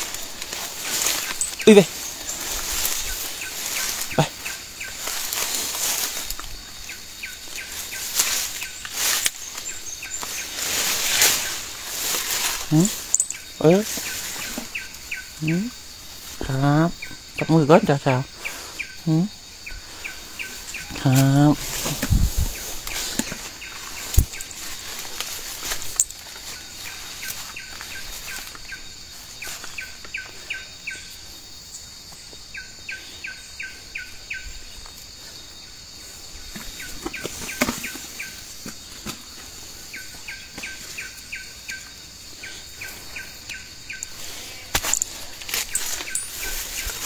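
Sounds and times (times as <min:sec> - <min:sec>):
high drone of insects: 0:00.0 - 0:47.0.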